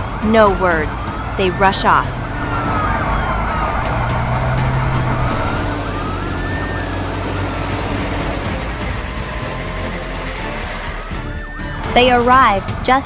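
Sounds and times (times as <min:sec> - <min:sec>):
emergency sirens wailing: 0:00.0 - 0:13.0
low rumble of vehicle engines: 0:00.0 - 0:13.0.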